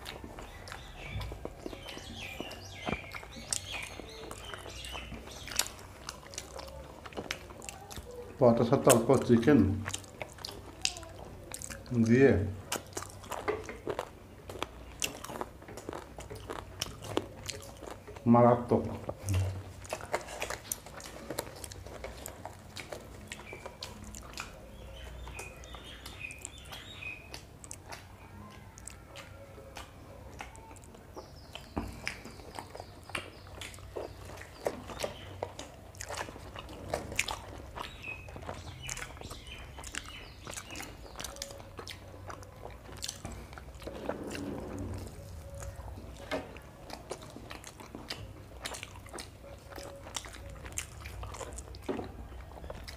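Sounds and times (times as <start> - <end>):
mouth smacks and wet clicks: 0.0 - 44.4, 45.0 - 52.9
people chewing food: 0.0 - 52.9.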